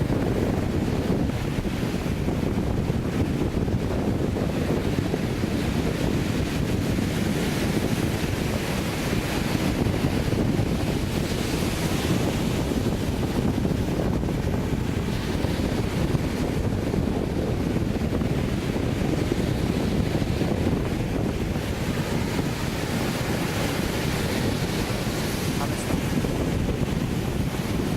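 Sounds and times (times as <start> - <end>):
sea waves breaking on beach: 0.0 - 27.9
wind buffeting microphone: 0.0 - 27.9.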